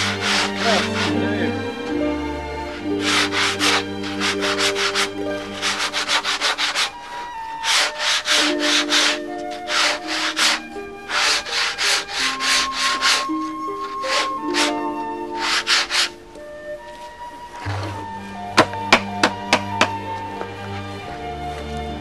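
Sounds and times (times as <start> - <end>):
hand sanding board: 0.0 - 1.5, 2.7 - 21.4
soft background music: 0.0 - 22.0.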